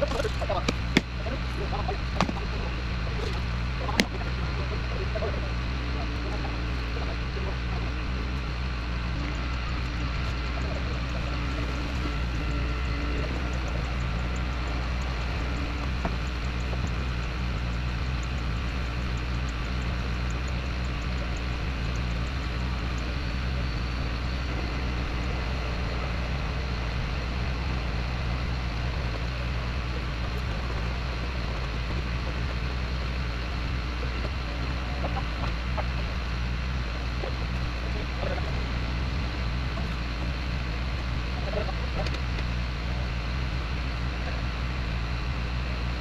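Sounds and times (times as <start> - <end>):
excavator engine running: 0.0 - 46.0.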